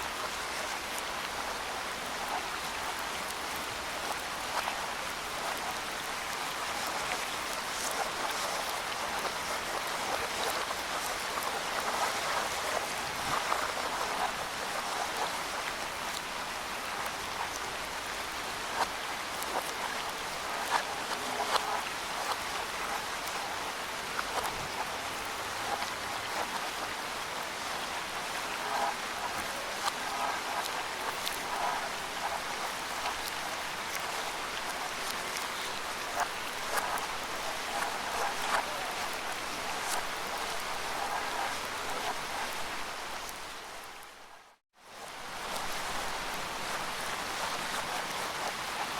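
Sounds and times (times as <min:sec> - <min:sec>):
steady rain in woodland: 0:00.0 - 0:48.9.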